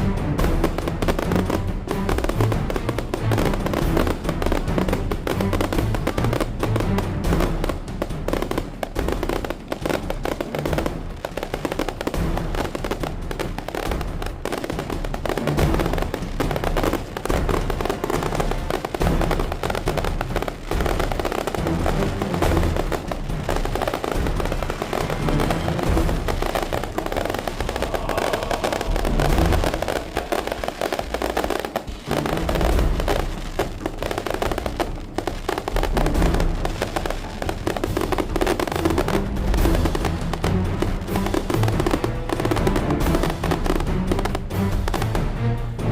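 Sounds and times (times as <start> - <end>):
firecrackers popping: 0.0 - 45.9
music: 0.0 - 45.9.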